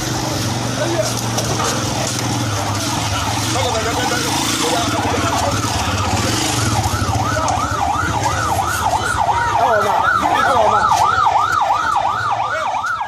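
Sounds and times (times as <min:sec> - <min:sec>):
crowd voices: 0:00.0 - 0:13.0
siren in fast warble: 0:02.4 - 0:13.0.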